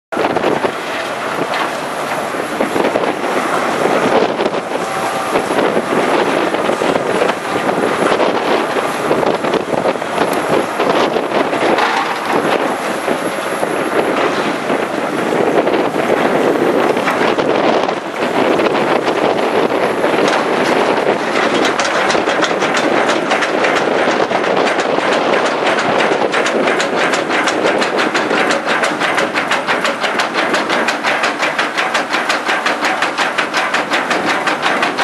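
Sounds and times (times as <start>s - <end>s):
diesel engines running: 0.1s - 35.0s
excavator buckets crunching and clattering: 0.2s - 35.0s.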